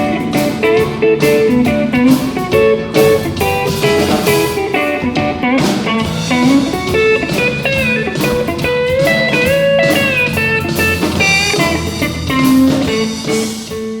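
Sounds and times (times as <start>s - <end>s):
pedal steel guitar melody: 0.0s - 14.0s.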